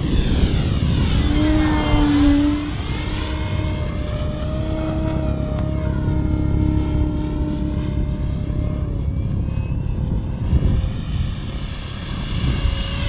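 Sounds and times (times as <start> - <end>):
model plane motor buzzing whine: 0.0 - 13.0
wind rumbling on microphone: 0.0 - 13.0.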